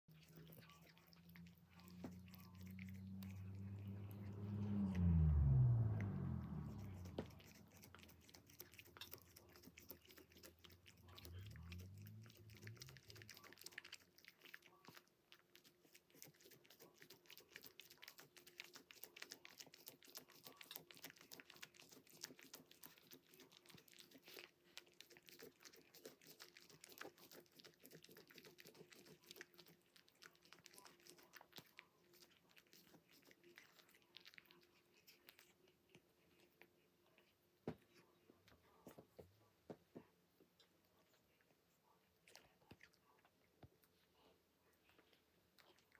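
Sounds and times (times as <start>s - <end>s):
cat chewing and licking: 0.0s - 45.9s.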